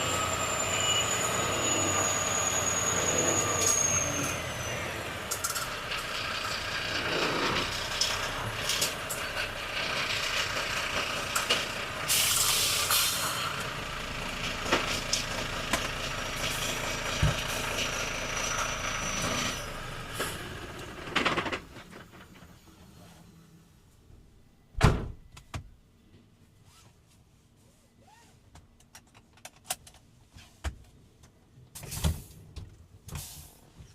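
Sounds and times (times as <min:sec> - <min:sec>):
truck engine and road noise: 0:00.0 - 0:33.9.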